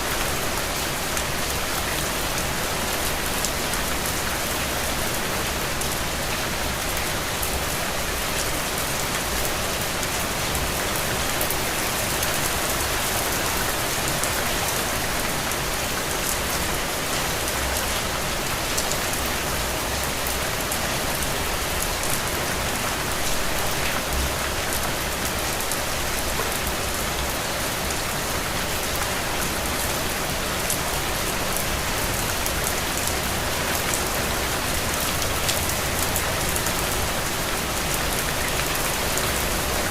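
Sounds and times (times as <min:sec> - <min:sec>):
steady rain: 0:00.0 - 0:39.9
raindrops pattering on surfaces: 0:00.1 - 0:39.9.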